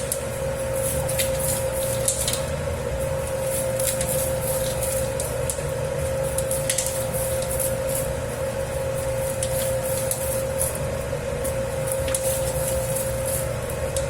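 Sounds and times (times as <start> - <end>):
dough being worked in bowl: 0.0 - 14.0
dough kneading machine hum: 0.0 - 14.0.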